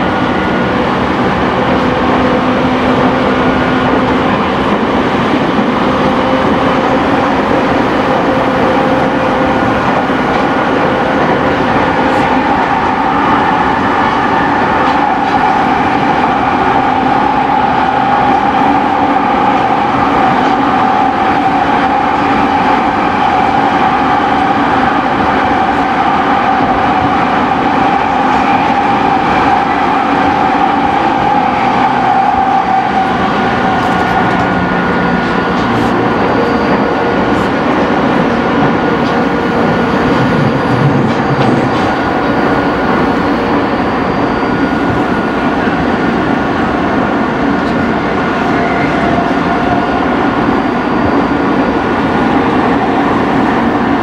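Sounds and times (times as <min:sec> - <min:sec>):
wheel-and-rail noise: 0:00.0 - 0:54.0.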